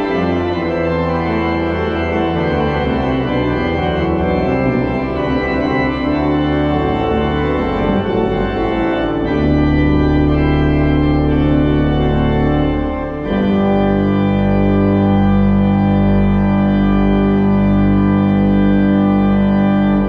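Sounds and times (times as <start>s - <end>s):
church organ playing chords: 0.0s - 20.0s.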